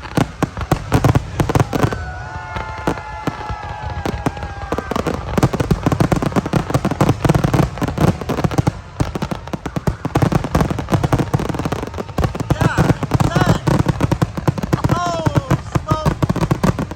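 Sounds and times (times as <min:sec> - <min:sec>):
fireworks crackling pops: 0:00.0 - 0:16.9.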